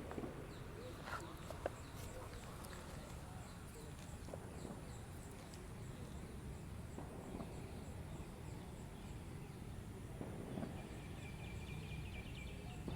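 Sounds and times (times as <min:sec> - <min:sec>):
small birds or insects chirping: 0:00.1 - 0:12.9.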